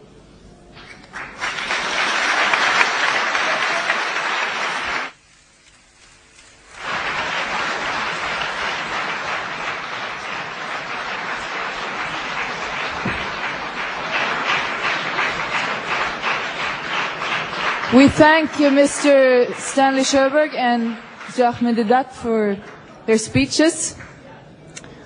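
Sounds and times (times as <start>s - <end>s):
audience applauding: 0.9s - 5.2s, 6.6s - 24.2s.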